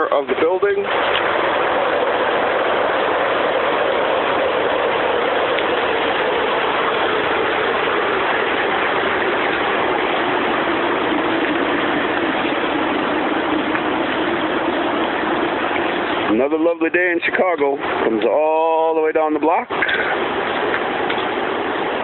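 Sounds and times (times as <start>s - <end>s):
water gushing from burst pipe: 0.0s - 22.0s.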